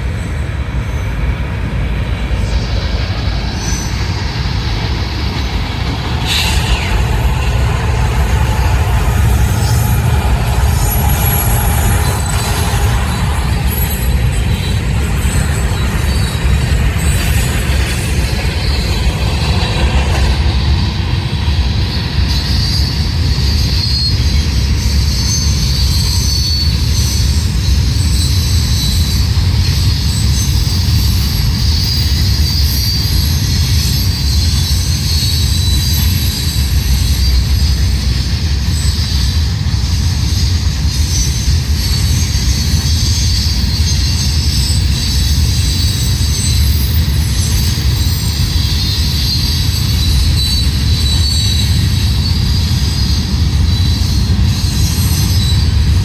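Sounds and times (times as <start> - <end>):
train wheels rumbling on track: 0.0 - 56.0
high-pitched wheel squeal: 2.4 - 56.0.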